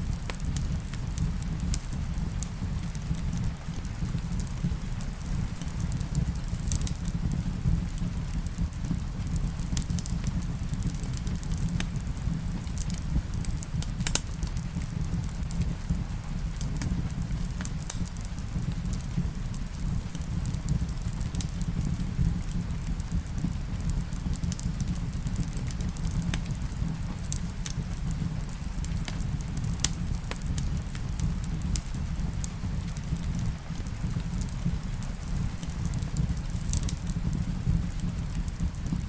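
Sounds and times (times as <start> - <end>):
rain: 0.0 - 39.0
wood fire crackling: 0.0 - 39.0.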